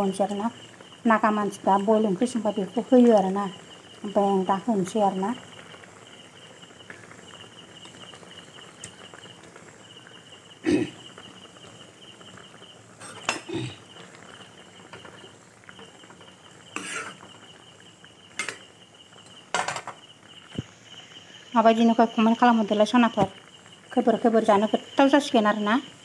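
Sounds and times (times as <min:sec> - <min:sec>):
faint bubbling: 0:00.0 - 0:26.0.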